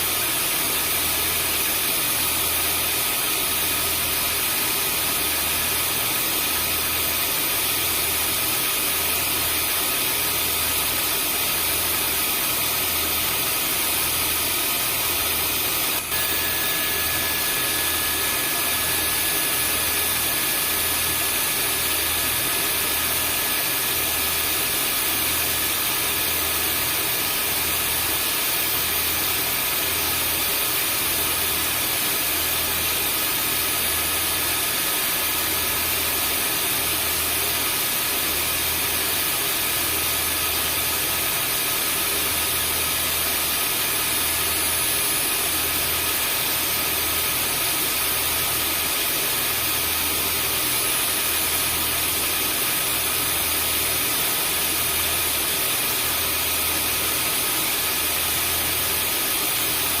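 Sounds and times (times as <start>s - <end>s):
vacuum cleaner motor running: 0.0s - 60.0s.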